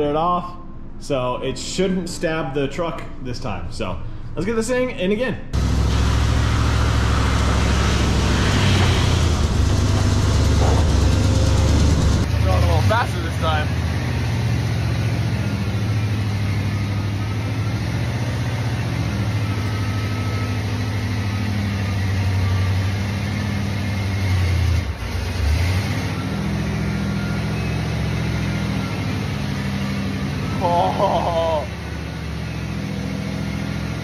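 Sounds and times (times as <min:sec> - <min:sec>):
truck engine running at low speed: 0:05.5 - 0:34.0.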